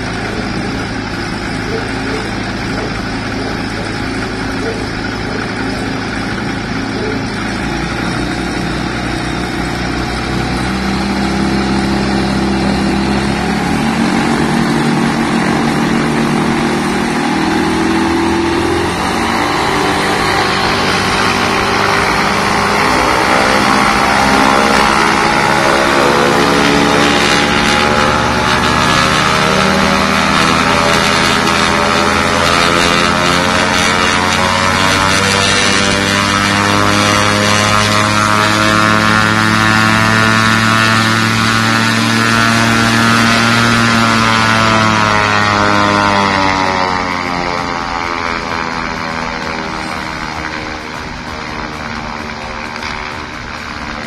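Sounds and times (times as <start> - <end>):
light aircraft engine running: 0.0 - 54.0.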